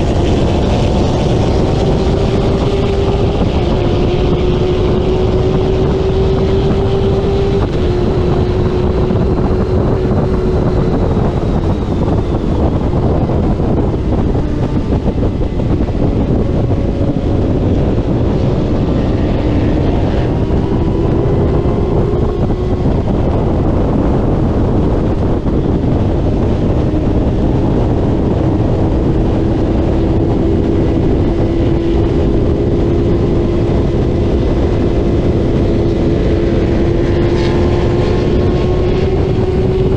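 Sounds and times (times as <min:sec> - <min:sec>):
racing motorcycle engine: 0:00.0 - 0:39.9
wind noise on microphone: 0:00.0 - 0:39.9.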